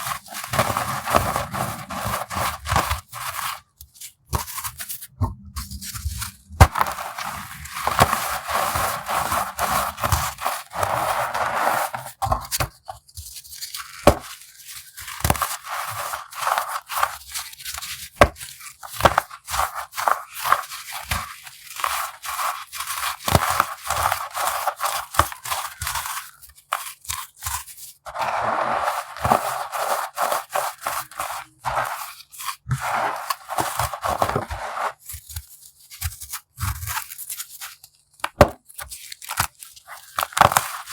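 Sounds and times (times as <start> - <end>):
baking soda crunching: 0.0 - 12.2, 13.4 - 40.9.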